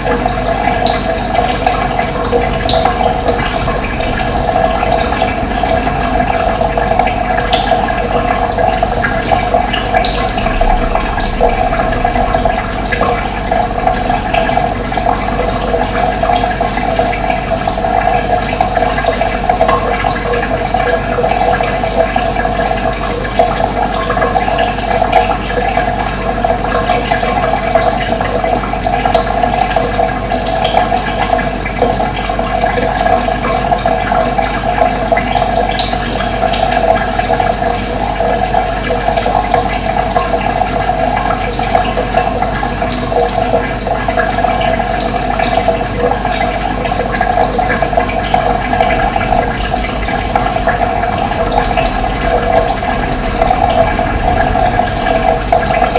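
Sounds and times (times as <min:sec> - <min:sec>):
running water gurgling: 0:00.0 - 0:55.9.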